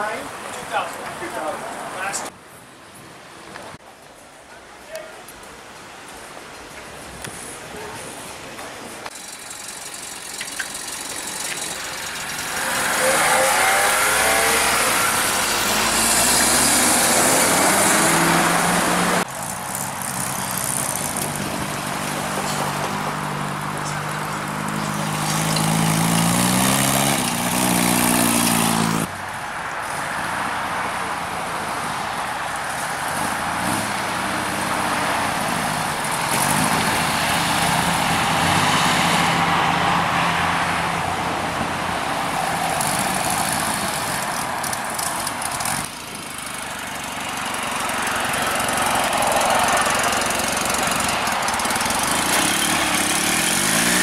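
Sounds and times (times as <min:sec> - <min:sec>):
engines revving: 0:09.1 - 0:29.1, 0:29.8 - 0:54.0
cars driving past: 0:09.1 - 0:54.0.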